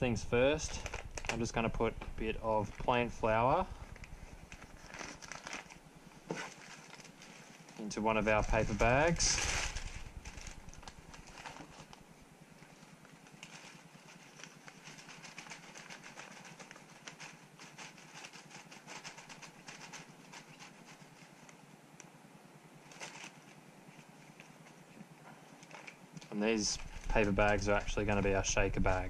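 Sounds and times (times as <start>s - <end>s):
paper bag and plastic packet crinkling: 0.5s - 12.0s, 12.6s - 21.6s, 22.8s - 24.5s, 25.5s - 29.0s.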